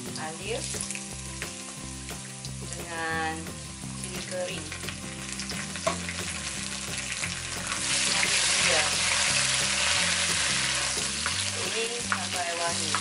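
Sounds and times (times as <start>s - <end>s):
garlic and chillies sizzling in oil: 0.0s - 13.0s.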